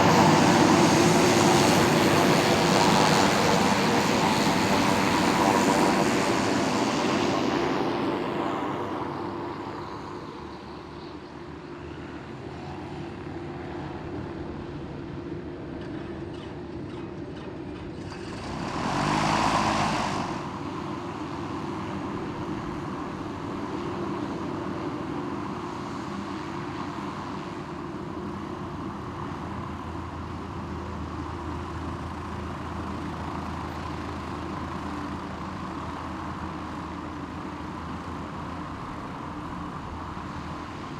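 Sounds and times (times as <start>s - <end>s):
propeller aircraft engine: 0.0s - 40.9s.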